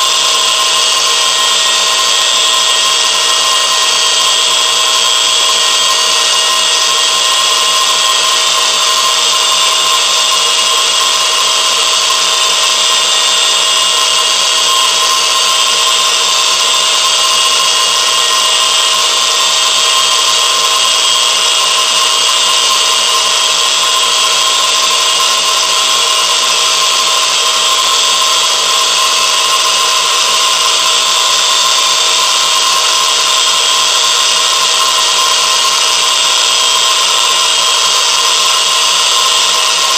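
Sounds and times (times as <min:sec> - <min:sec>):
machine whirring and whining: 0:00.0 - 0:39.9.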